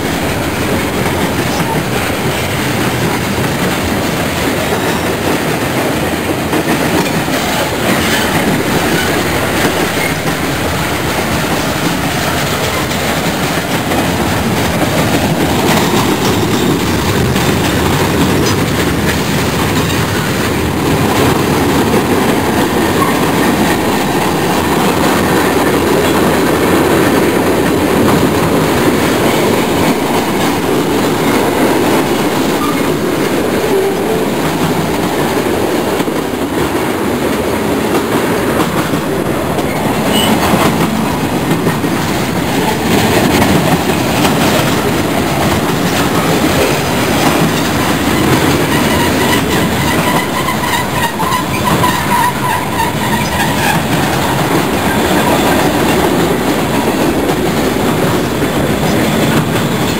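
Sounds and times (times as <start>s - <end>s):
freight train rolling past: 0.0s - 59.9s.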